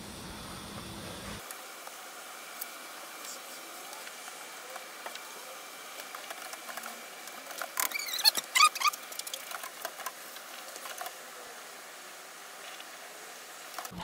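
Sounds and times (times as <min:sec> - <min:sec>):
water boiling in a pot: 0:00.0 - 0:14.0.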